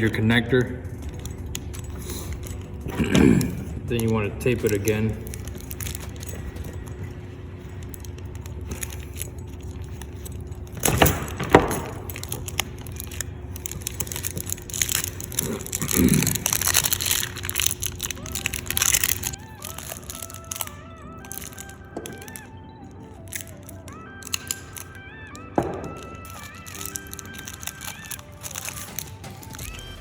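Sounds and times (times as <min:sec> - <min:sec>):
tape crackling and tearing: 0:00.9 - 0:22.5, 0:23.1 - 0:30.0.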